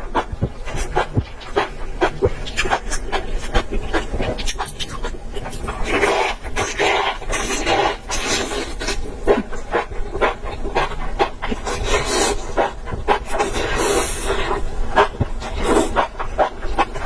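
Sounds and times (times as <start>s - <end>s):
person chewing wetly: 0.0s - 17.0s.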